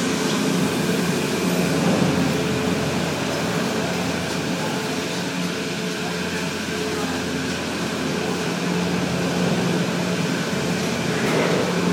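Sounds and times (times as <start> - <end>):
lift machinery humming: 0.0 - 11.9.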